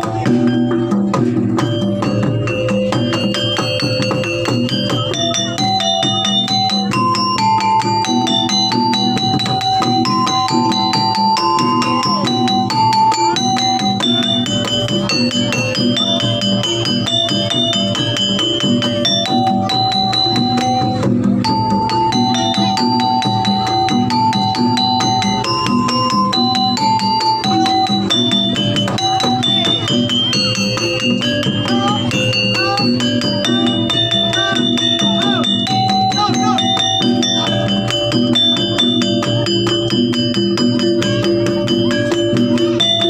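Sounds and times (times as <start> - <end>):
fast percussion strokes: 0.0 - 43.0
ringing melody of held notes: 0.0 - 43.0.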